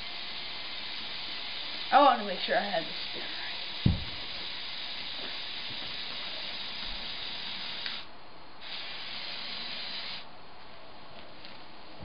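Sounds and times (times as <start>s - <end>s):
toy motors and gears whirring: 0.0s - 10.2s.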